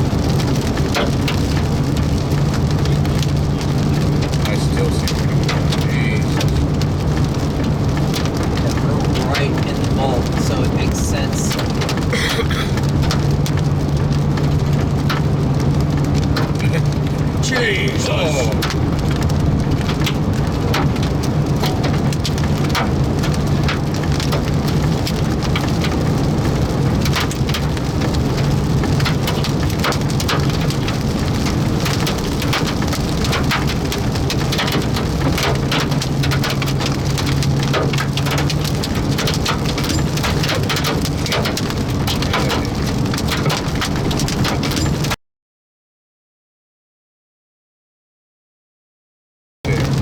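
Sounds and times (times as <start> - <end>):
rain and hail pounding a vehicle: 0.0 - 45.2, 49.7 - 50.0.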